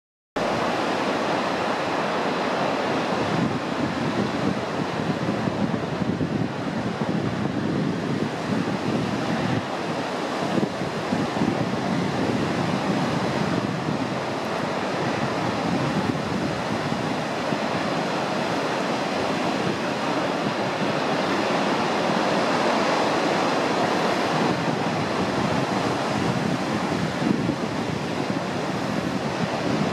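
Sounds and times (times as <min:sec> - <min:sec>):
ocean waves breaking on beach: 0:00.4 - 0:29.9.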